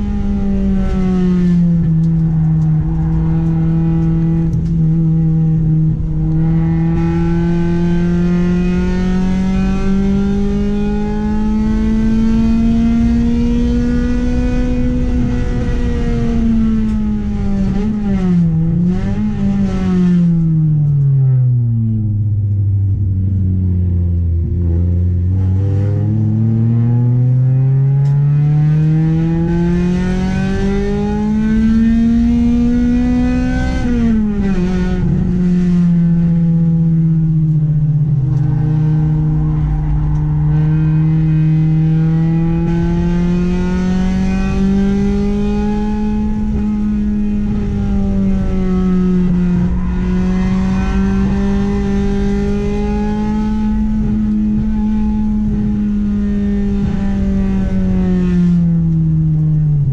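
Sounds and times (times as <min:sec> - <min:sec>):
car engine revving: 0:00.0 - 0:22.2, 0:22.9 - 0:59.9.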